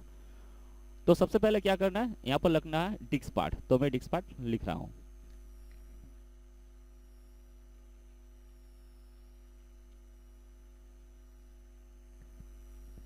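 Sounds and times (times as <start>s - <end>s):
electrical hum: 0.0s - 13.0s
faint high whine: 0.0s - 13.0s.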